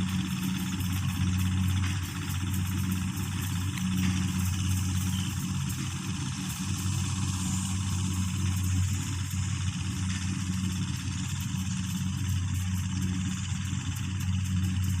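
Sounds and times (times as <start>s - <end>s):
diesel engine humming: 0.0s - 15.0s
machinery noise: 0.0s - 15.0s.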